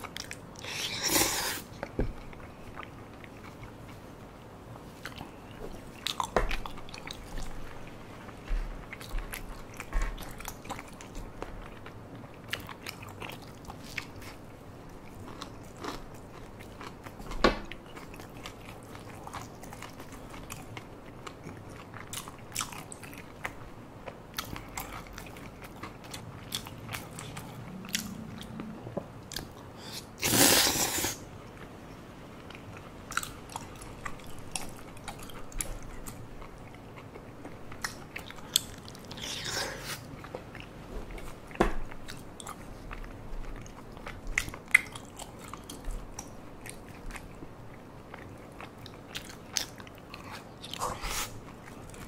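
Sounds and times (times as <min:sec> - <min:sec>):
close chewing and mouth sounds: 0:00.0 - 0:52.0.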